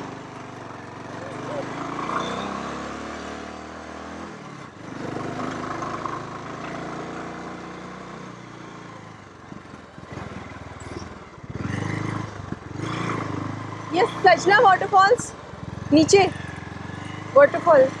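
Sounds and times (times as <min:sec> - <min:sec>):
motorcycle engine running: 0:00.0 - 0:02.9, 0:03.6 - 0:18.0.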